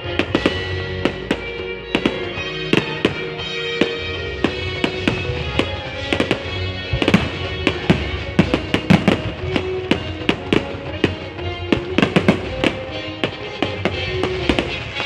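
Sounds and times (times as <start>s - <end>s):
fireworks bursting: 0.0s - 15.0s
steady music: 0.0s - 15.0s.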